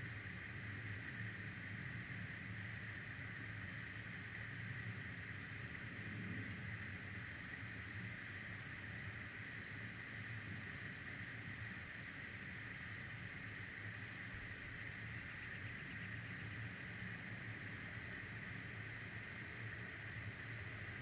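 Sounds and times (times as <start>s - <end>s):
constant hiss: 0.0s - 21.0s.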